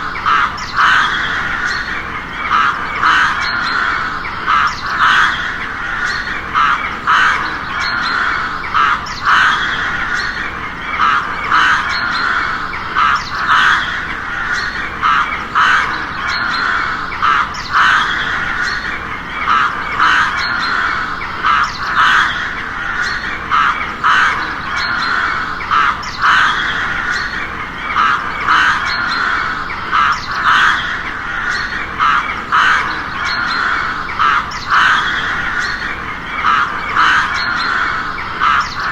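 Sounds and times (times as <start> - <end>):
crows cawing: 0.0 - 38.9.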